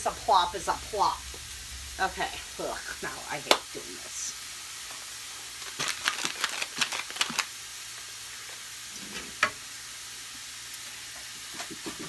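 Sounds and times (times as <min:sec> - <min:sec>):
meat sizzling: 0:00.0 - 0:12.0.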